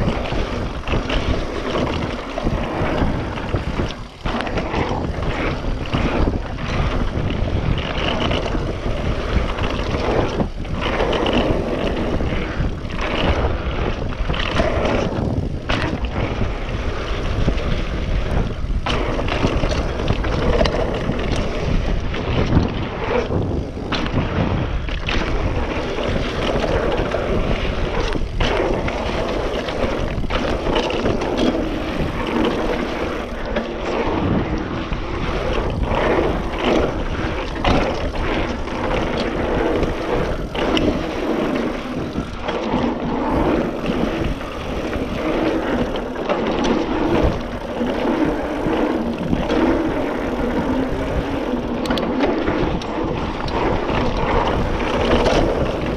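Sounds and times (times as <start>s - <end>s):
bike rattling over bumps: 0.0s - 55.9s
bike tyres rolling on dirt: 0.0s - 55.9s
wind on microphone: 0.0s - 55.9s.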